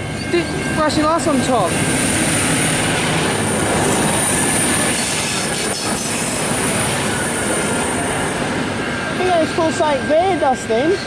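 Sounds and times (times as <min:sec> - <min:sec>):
train wheels rushing on rails: 0:00.0 - 0:11.0.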